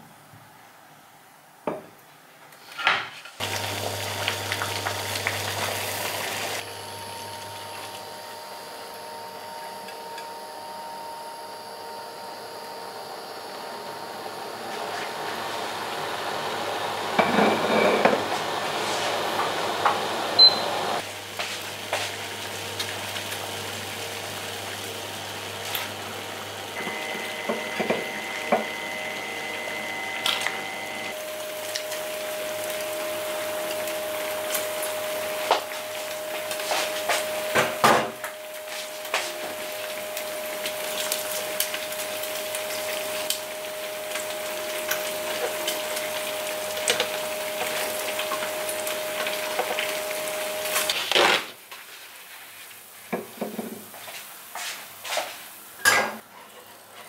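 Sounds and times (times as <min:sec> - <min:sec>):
electric hob humming: 0:03.4 - 0:51.3.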